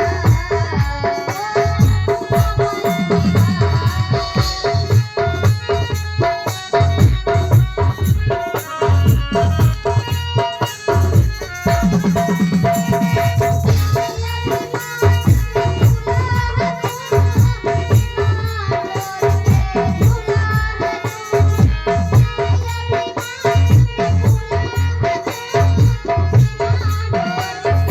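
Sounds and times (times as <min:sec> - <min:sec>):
pounding drum beat: 0:00.0 - 0:27.9
rattling percussion: 0:00.0 - 0:27.9.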